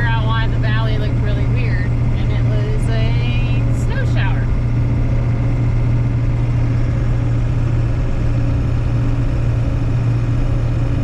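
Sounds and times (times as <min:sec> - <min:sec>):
pickup truck engine: 0:00.0 - 0:11.0
road noise inside cab: 0:00.0 - 0:11.0.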